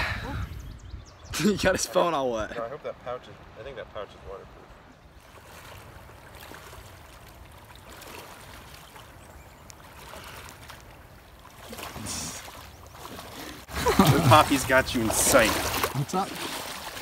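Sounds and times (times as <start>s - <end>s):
water swishing around waders: 1.3s - 17.0s.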